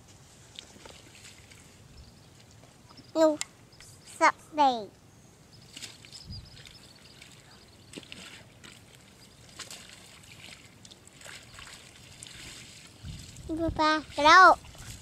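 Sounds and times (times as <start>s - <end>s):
muddy water sloshing: 0.0s - 4.2s, 5.6s - 15.0s.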